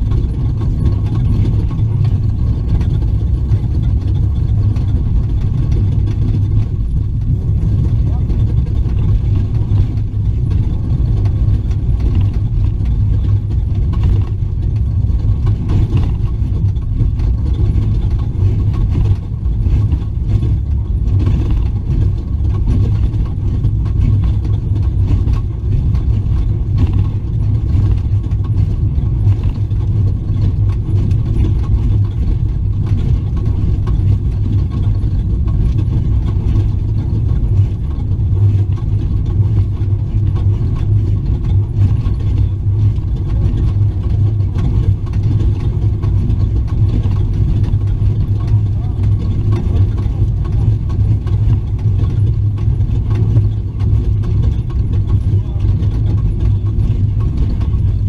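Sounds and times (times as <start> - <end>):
truck engine rumbling: 0.0 - 58.0.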